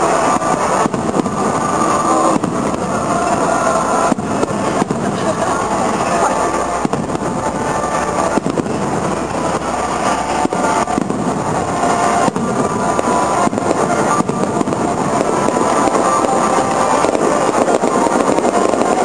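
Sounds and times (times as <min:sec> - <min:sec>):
dense background din: 0:00.0 - 0:19.0
fireworks bursting: 0:00.0 - 0:19.0.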